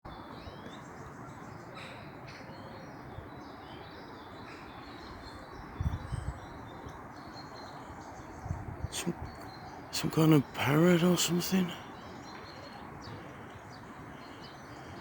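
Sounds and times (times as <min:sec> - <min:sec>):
birds chirping: 0:00.1 - 0:15.0
outdoor background hiss: 0:00.1 - 0:15.0.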